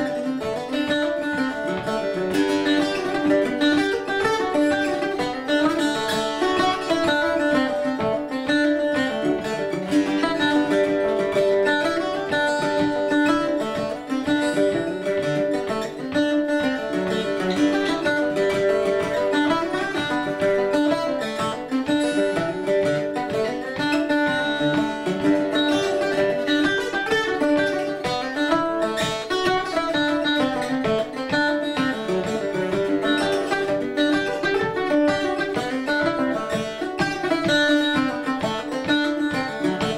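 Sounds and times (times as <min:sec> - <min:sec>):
plucked string instrument jig: 0:00.0 - 0:39.9.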